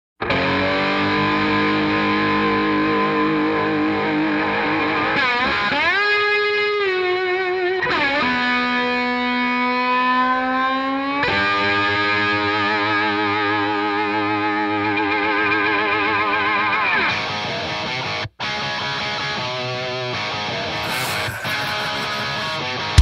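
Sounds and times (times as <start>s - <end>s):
distorted electric guitar music: 0.2s - 23.0s.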